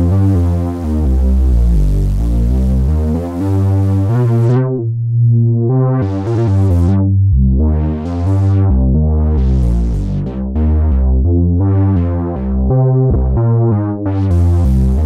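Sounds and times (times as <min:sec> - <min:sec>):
synthesizer bass notes: 0:00.0 - 0:15.0.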